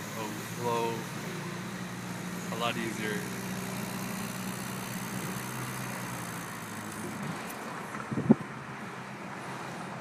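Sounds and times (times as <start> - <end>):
car engine running: 0.0 - 9.1
road noise: 0.0 - 10.0.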